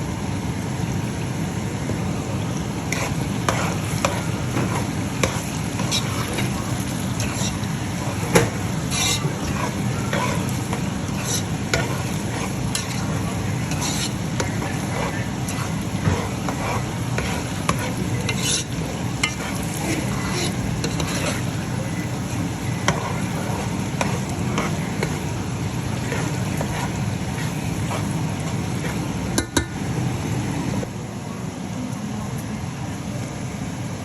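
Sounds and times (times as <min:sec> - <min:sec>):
food sizzling in a pan: 0:00.0 - 0:30.9
utensil stirring and scraping: 0:01.8 - 0:29.7.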